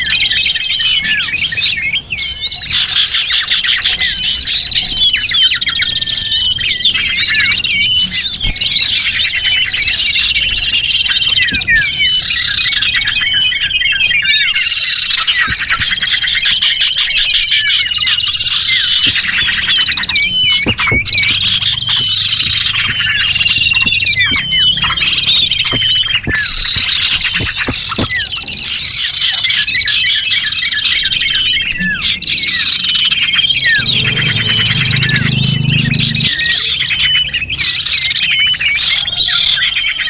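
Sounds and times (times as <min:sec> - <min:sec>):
chorus of songbirds: 0:00.0 - 0:40.0.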